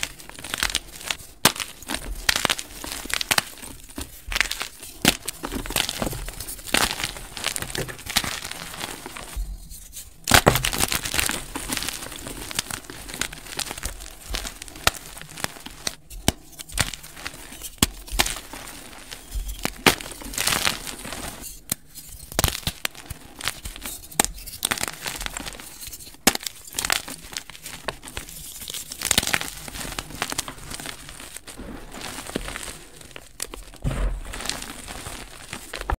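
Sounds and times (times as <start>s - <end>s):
chalk crunching and crackling: 0.0s - 36.0s.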